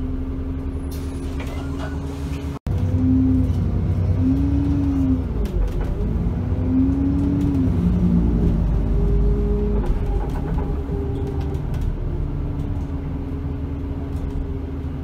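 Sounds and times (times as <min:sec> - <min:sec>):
bus engine changing gears: 0:00.0 - 0:15.0.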